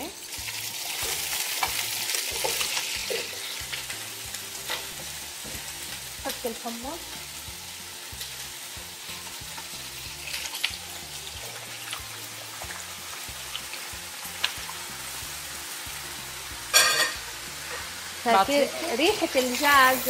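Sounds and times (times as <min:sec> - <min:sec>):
food sizzling in oil: 0:00.0 - 0:20.0
soft background music: 0:00.0 - 0:20.0.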